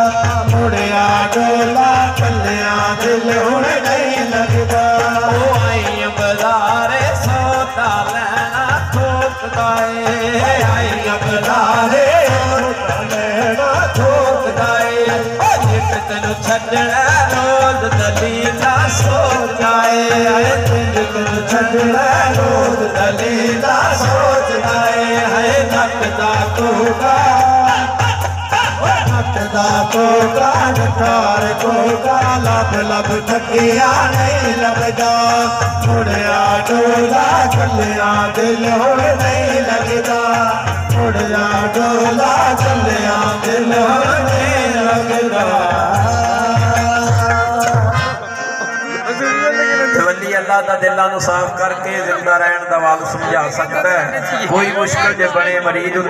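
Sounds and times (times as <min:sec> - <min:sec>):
hand drums beating: 0:00.0 - 0:50.1
devotional singing with melody: 0:00.0 - 0:56.0.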